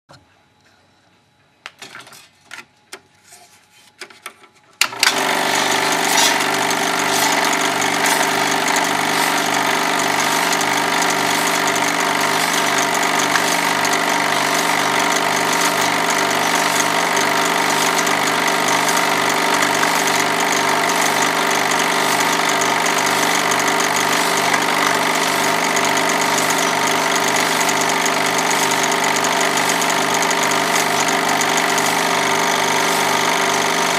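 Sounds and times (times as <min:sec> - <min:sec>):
projector motor drone pulsing: 0:05.0 - 0:33.9.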